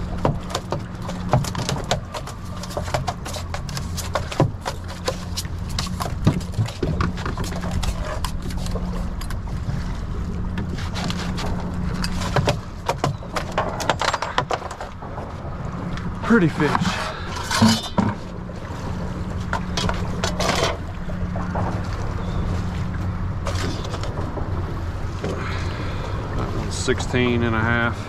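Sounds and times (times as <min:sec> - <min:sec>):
fish flopping on deck: 0:00.0 - 0:28.0
low rumble: 0:05.4 - 0:28.0.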